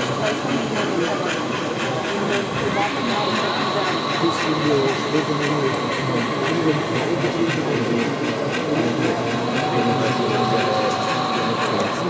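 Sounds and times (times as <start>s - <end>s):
model train rolling on track: 0.0s - 12.0s
people talking: 0.0s - 12.0s.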